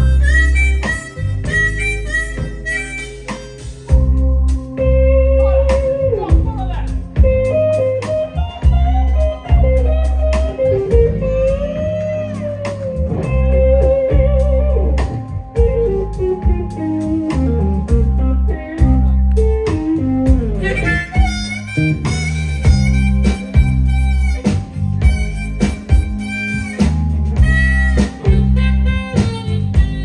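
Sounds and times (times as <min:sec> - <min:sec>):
steady drum beat: 0:00.0 - 0:05.1, 0:05.7 - 0:30.0
bass guitar: 0:00.0 - 0:30.0
lead electric guitar: 0:00.0 - 0:30.0.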